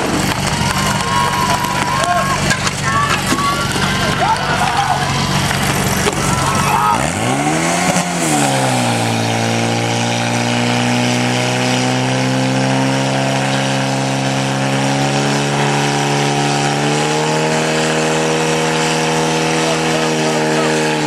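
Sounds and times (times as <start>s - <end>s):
pump engine running: 0.0s - 21.0s.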